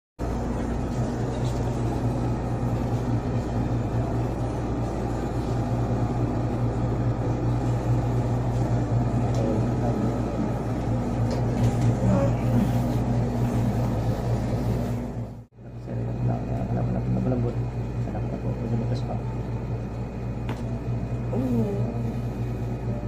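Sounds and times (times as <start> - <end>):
low mechanical hum: 0.2 - 23.0.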